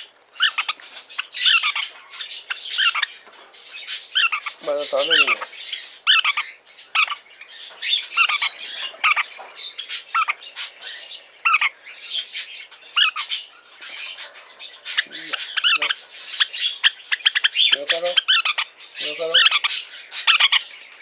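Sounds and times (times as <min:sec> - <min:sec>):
parakeet chick squawking chirps: 0:00.0 - 0:20.9.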